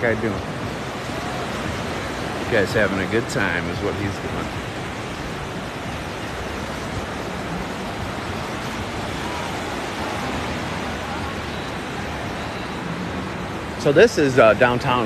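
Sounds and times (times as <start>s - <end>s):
gentle surf on sandy beach: 0.0s - 15.0s.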